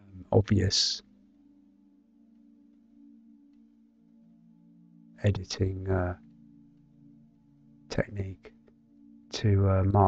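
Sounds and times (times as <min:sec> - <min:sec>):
faint low drone: 0:00.0 - 0:10.0.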